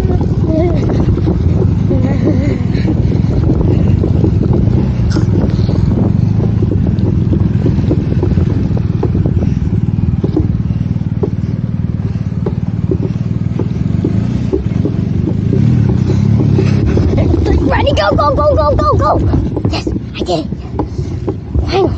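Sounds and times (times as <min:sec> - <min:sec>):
knocks and rattles: 0:00.0 - 0:21.9
motorcycle engine running: 0:00.0 - 0:21.9.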